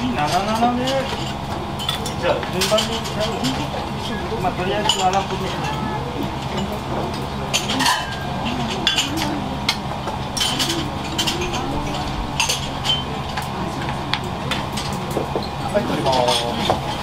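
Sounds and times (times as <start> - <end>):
steady low hum: 0.0 - 17.0
dishes and cutlery clattering: 0.1 - 17.0.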